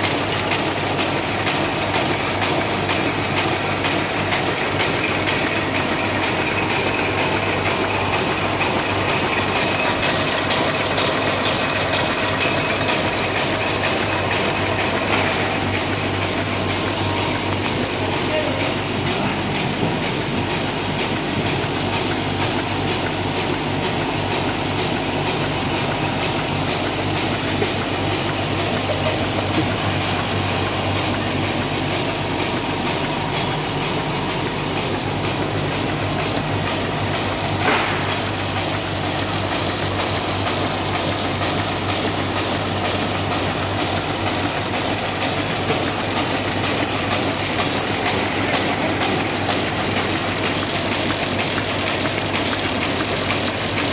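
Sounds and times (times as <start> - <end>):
machines clattering: 0.0 - 53.9.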